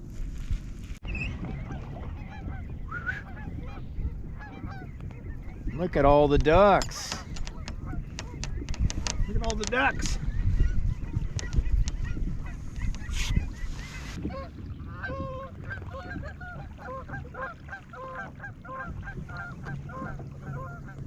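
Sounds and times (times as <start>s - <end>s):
waterfowl honking: 1.1s - 5.9s, 6.7s - 21.0s.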